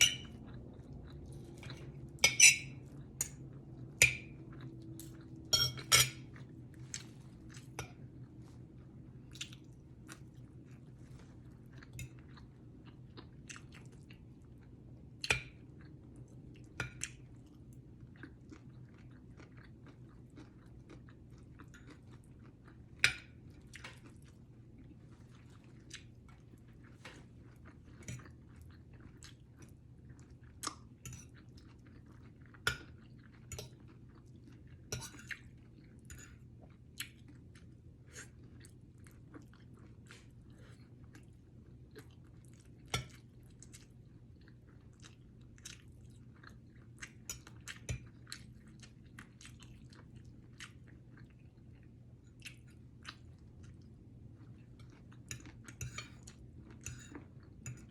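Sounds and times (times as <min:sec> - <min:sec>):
person chewing and crunching food: 0:00.0 - 0:57.9.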